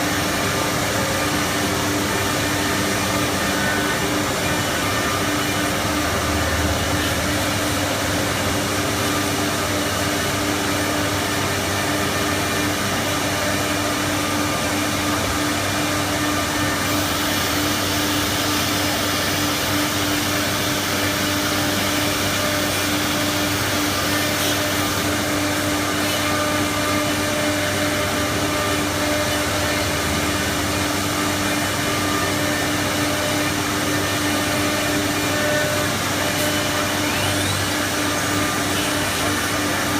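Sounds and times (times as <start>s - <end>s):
wood router whirring: 0.0s - 39.9s.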